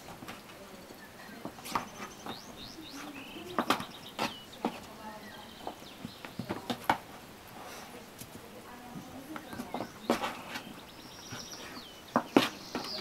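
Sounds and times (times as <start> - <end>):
birds chirping: 0.0 - 13.0
kittens pawing at board: 1.3 - 7.2, 8.1 - 13.0.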